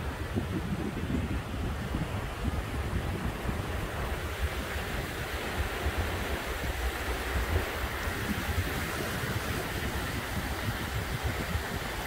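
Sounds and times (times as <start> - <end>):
surf washing onto sand: 0.0 - 12.0
wind on microphone: 0.0 - 12.0.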